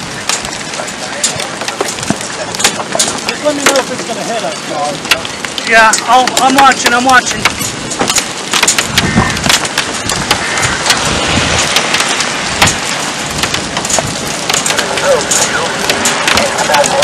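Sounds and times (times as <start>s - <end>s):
heavy rain: 0.0s - 17.0s
sharp crackling taps: 0.0s - 17.0s.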